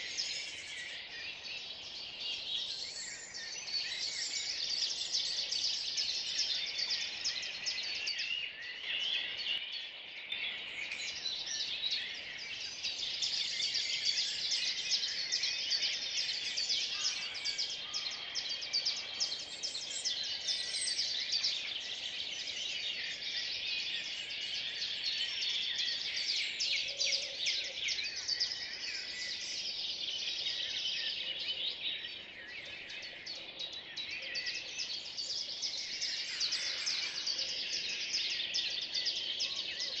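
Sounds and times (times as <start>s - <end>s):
songbirds singing and chirping: 0.0s - 40.0s.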